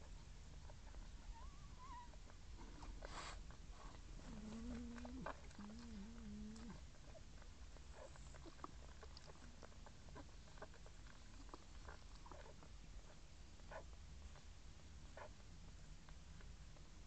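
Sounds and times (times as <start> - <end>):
low steady hum: 0.0 - 17.0
puppies suckling: 0.5 - 17.0.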